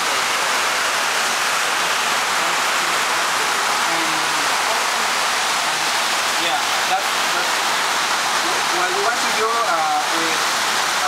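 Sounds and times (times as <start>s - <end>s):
rain on a metal roof: 0.0s - 11.0s.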